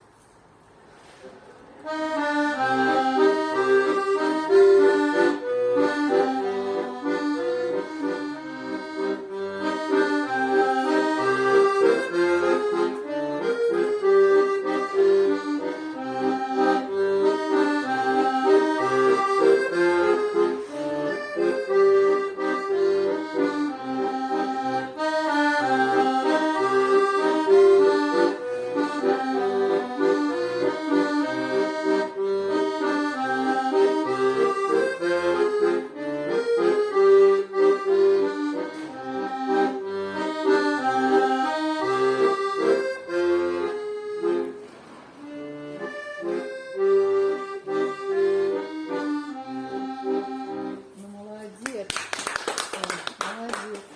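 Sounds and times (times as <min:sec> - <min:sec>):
accordion playing slow melody: 0:01.8 - 0:51.4.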